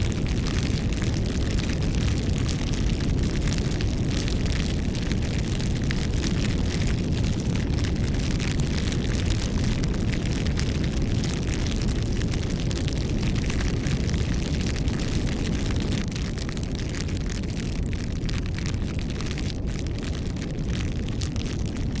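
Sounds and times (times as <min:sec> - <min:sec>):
crackling wood: 0:00.0 - 0:22.0
flames rushing: 0:00.0 - 0:22.0.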